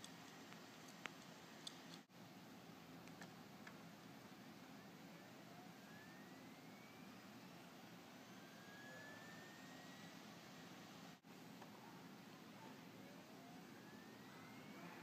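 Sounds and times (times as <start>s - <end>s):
faint hum and hiss: 0.0s - 15.0s
faint rising whines: 2.4s - 15.0s.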